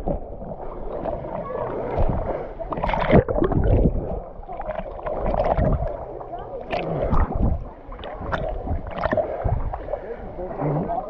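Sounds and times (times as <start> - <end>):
muffled thumps of water: 0.0 - 11.0
water sloshing and gurgling: 0.0 - 11.0.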